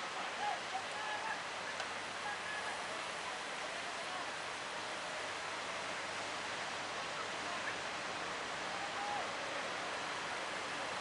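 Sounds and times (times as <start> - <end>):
faint distant voices: 0.0 - 11.0
sea surf and waves hissing: 0.0 - 11.0.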